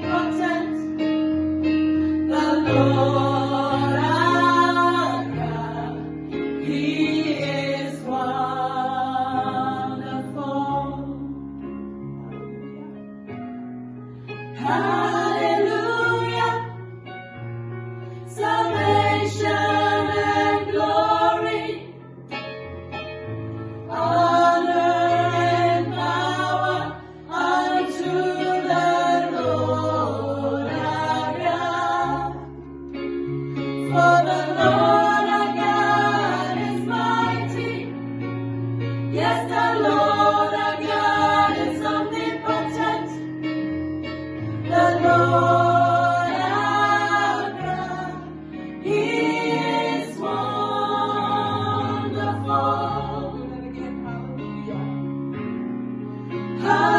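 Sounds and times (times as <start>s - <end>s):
gospel choir singing: 0.0s - 11.3s, 14.4s - 17.1s, 18.0s - 55.6s, 56.2s - 56.9s.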